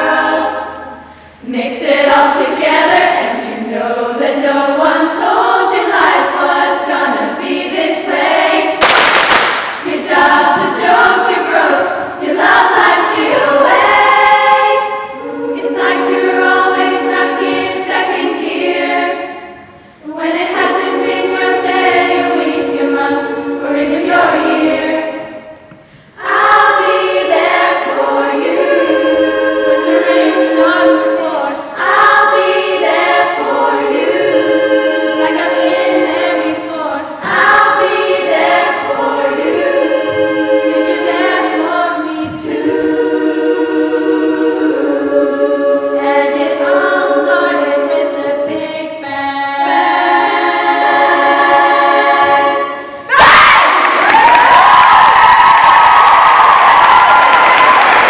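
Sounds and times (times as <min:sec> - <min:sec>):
girls' choir singing a cappella: 0:00.0 - 0:58.0.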